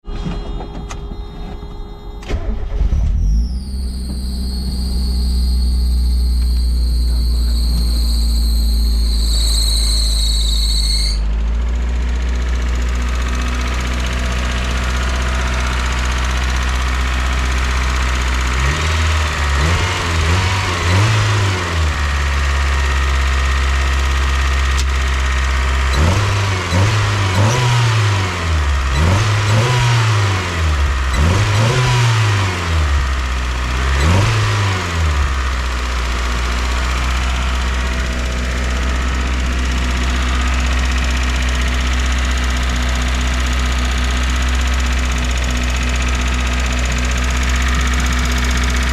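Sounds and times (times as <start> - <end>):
car engine idling and revving: 0.2 - 48.9.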